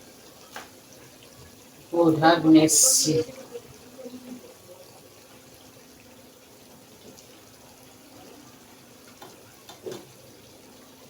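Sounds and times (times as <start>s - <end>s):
rice sizzling in a pot: 0.0s - 11.0s.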